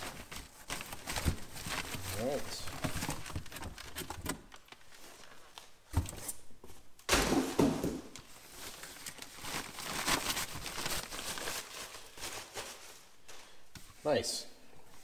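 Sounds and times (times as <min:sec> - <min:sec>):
plastic bag rustling: 0:00.0 - 0:14.2.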